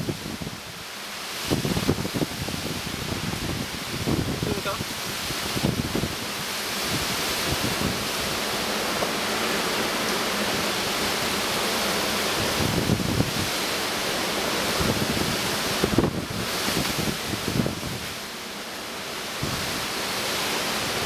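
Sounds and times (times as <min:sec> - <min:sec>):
wind buffeting microphone: 0:00.0 - 0:18.4, 0:19.2 - 0:21.0
heavy rain: 0:00.0 - 0:21.0
hurricane wind in trees: 0:00.0 - 0:21.0.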